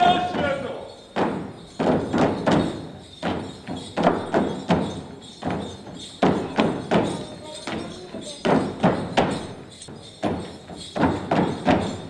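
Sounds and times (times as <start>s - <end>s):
feet stamping: 0.0s - 12.0s.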